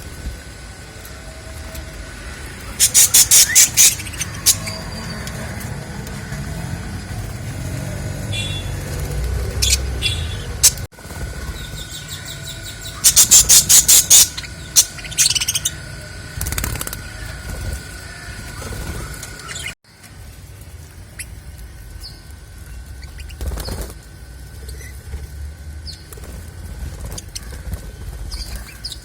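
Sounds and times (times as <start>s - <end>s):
budgies flapping wings: 1.6s - 19.8s, 22.7s - 29.0s.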